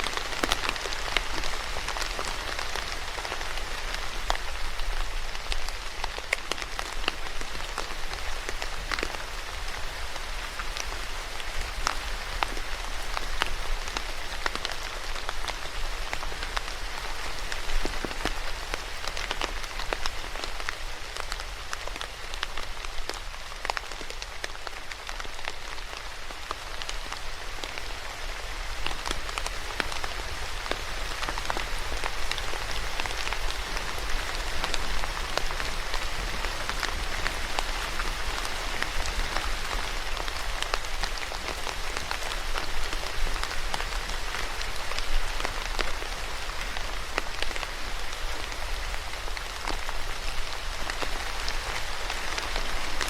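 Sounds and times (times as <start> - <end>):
rain on a hard surface: 0.0 - 53.0.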